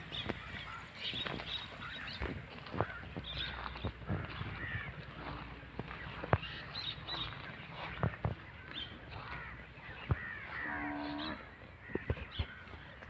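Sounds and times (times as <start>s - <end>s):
bird chirps: 0.0s - 12.8s.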